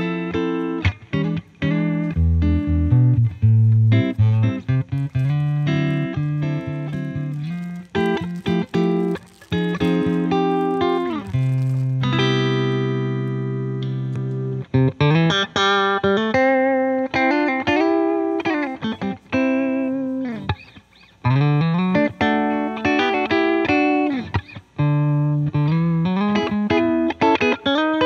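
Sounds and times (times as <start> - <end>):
electric guitar playing: 0.0 - 28.0.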